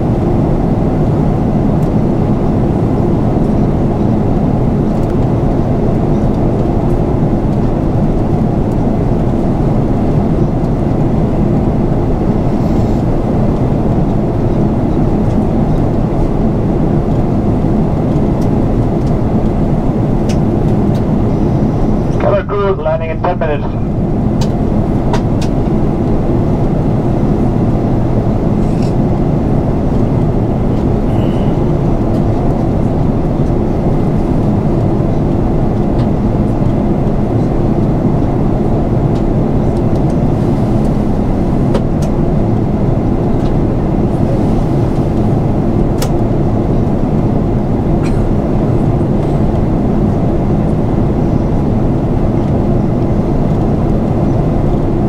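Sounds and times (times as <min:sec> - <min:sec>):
airplane cabin drone: 0:00.0 - 0:55.0.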